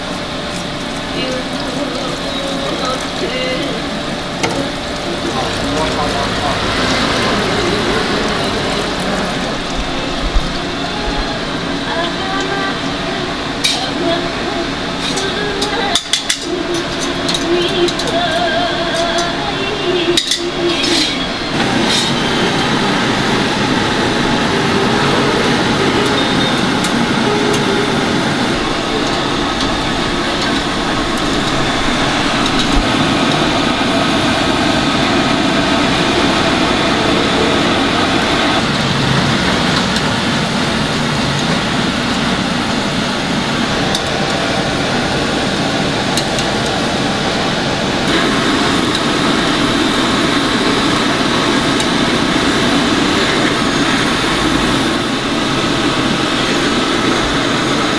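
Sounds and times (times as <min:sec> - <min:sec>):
exhaust fan drone: 0:00.0 - 0:57.9.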